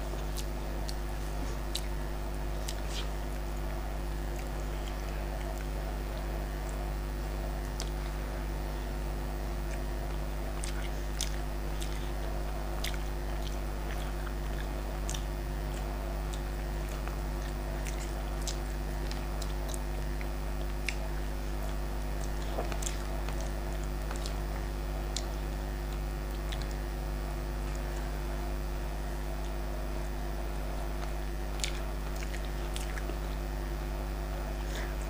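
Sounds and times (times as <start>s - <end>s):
chewing clicks: 0.0s - 6.9s, 7.6s - 8.2s, 9.6s - 26.8s, 29.3s - 33.5s
steady low hum: 0.0s - 35.0s.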